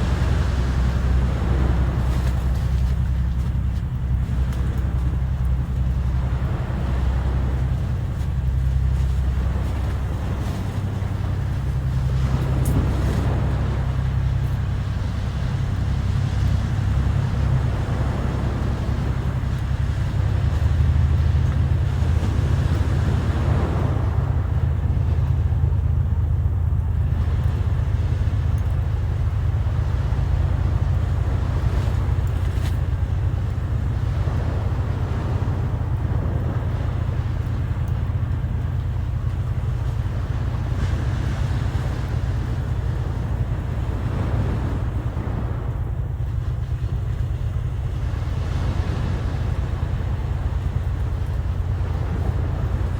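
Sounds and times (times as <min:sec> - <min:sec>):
sea waves washing ashore: 0:00.0 - 0:52.9
wind buffeting microphone: 0:00.0 - 0:52.9.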